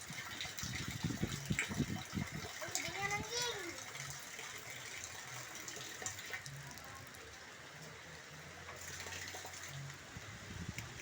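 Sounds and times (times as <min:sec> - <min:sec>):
rainwater falling and running: 0:00.0 - 0:11.0.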